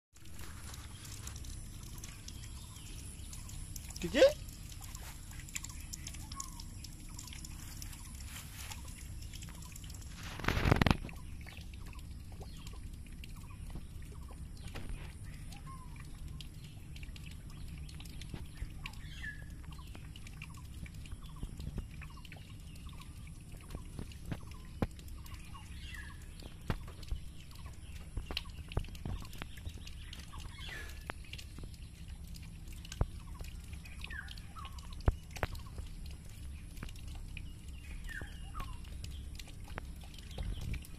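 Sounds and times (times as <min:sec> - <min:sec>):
faint clicks: 0:00.2 - 0:40.9
steady low rumble: 0:00.2 - 0:40.9.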